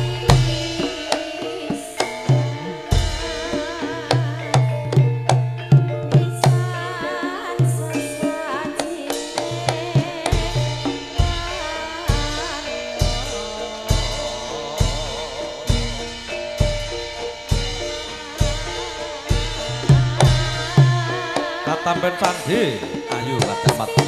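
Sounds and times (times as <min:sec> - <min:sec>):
deep drum beat: 0:00.0 - 0:06.8, 0:09.1 - 0:24.0
gamelan music: 0:00.0 - 0:24.0
hand drumming: 0:00.0 - 0:24.0.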